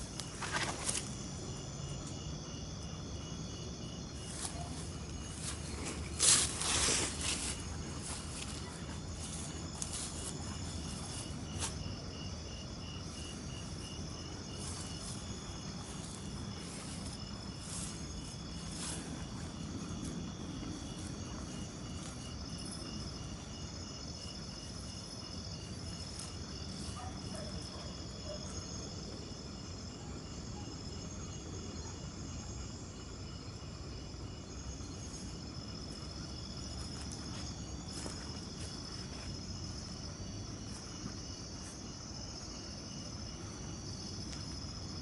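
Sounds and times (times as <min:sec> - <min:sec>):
cricket pulsing chirp: 0:00.0 - 0:45.0
crickets high trills: 0:00.0 - 0:45.0
low continuous rumble: 0:00.0 - 0:45.0.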